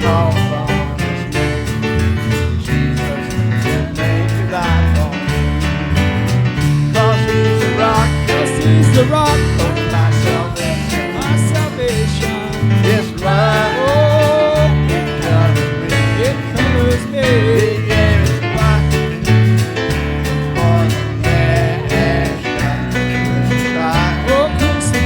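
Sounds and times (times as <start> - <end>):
bass line: 0.0 - 25.0
guitar: 0.0 - 25.0
sliding lead melody: 0.0 - 25.0.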